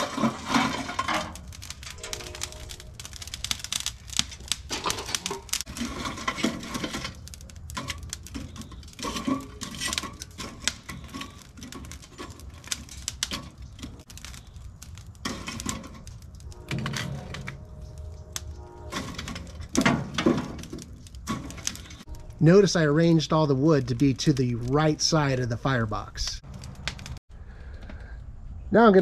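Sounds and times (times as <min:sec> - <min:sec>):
charcoal clinking and rattling: 0:00.0 - 0:27.2.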